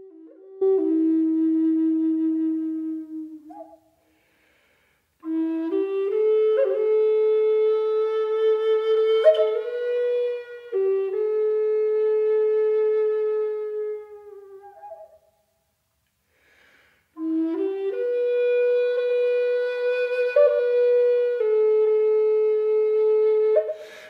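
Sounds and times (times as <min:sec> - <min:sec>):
solo flute playing slow notes: 0:00.0 - 0:04.2, 0:05.2 - 0:15.5, 0:17.2 - 0:24.0.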